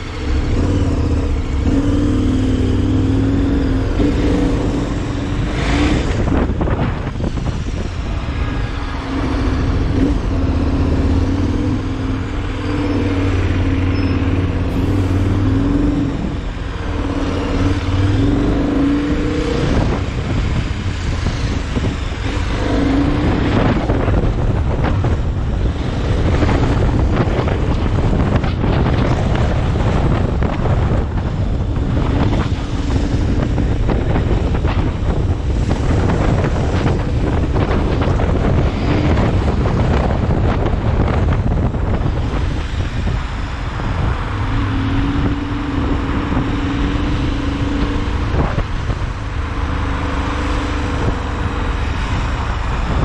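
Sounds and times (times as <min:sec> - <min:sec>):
vehicle engine humming: 0:00.0 - 0:53.0
wind noise on microphone: 0:00.0 - 0:53.0.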